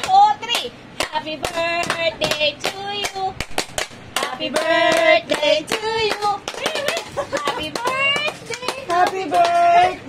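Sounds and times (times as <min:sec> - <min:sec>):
hand claps: 0:00.0 - 0:09.8.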